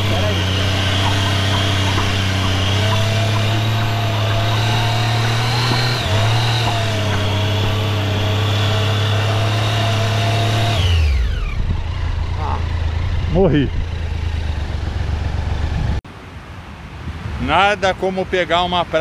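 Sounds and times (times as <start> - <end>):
off-road motorcycle engine: 0.0 - 16.0.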